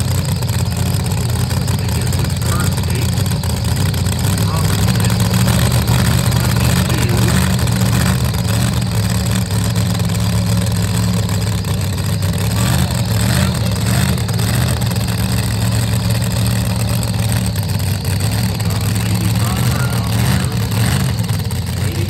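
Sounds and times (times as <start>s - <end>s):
tractor engine idling loudly: 0.0s - 22.0s.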